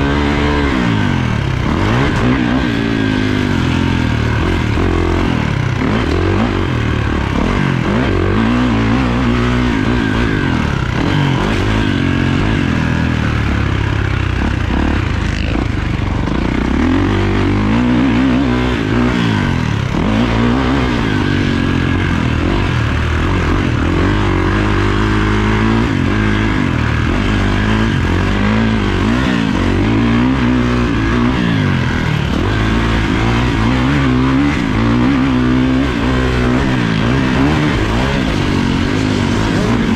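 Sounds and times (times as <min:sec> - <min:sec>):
dirt bike engine revving hard: 0:00.0 - 0:39.9.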